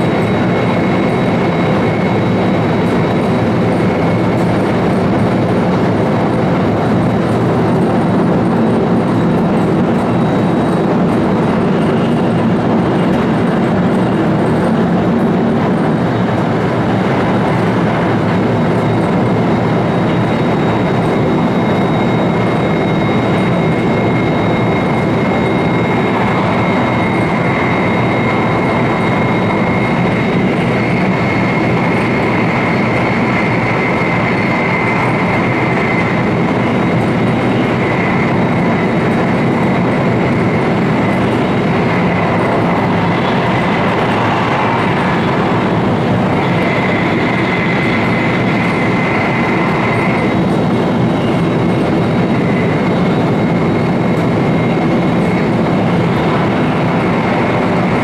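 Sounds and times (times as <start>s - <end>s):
thin high whine: 0.0s - 58.0s
train wheels rumbling on rail: 0.0s - 58.0s.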